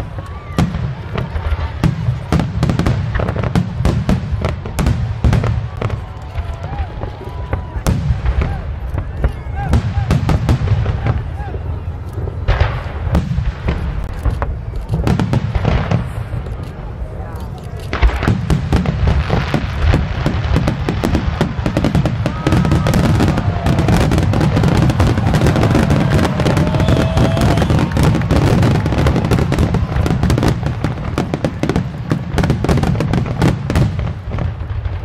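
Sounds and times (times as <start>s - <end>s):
fireworks booming and crackling: 0.0s - 35.0s.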